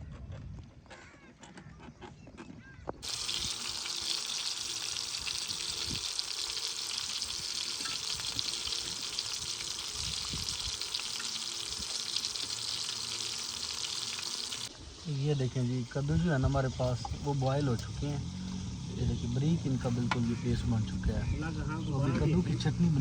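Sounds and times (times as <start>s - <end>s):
pot sizzling and crackling: 3.0s - 21.6s.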